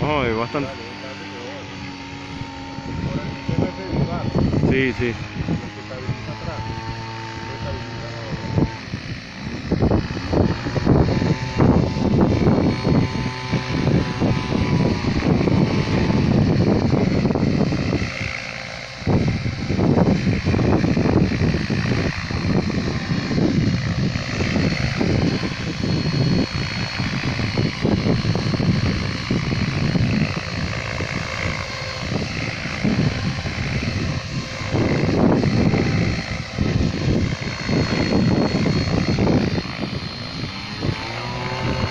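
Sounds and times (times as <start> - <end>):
low buffeting: 0.0 - 41.9
rc helicopter motor whine: 0.0 - 41.9.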